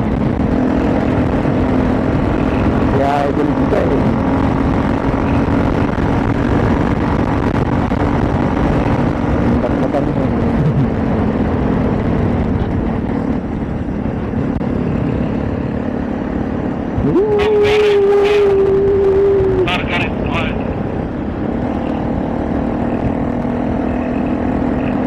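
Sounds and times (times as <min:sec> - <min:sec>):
wind rush: 0:00.0 - 0:24.7
motorcycle engine hum: 0:00.0 - 0:25.0.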